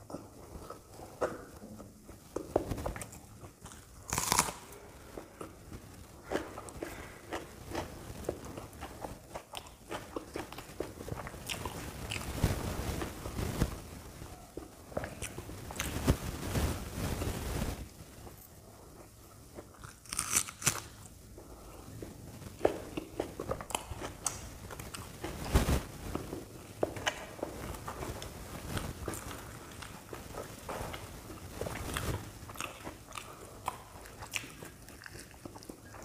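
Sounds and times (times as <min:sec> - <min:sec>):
crunchy chewing: 0:00.0 - 0:16.2, 0:17.6 - 0:25.4, 0:26.1 - 0:36.0.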